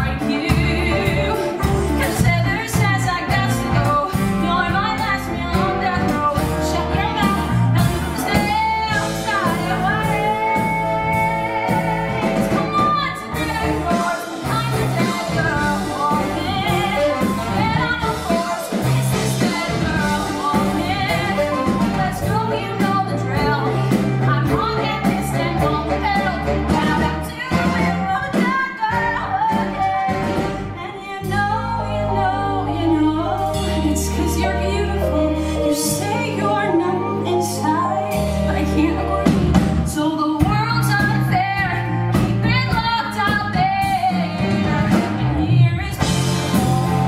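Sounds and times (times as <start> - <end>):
band accompaniment with bass: 0.0 - 47.0
woman singing: 0.0 - 47.0.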